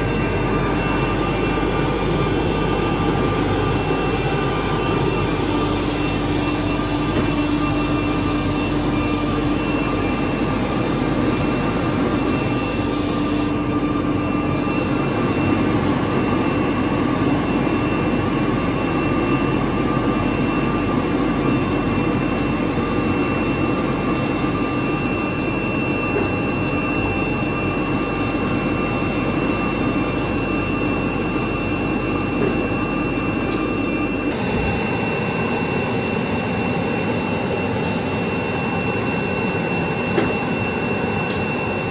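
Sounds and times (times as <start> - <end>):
cnc router whine: 0.0 - 41.9.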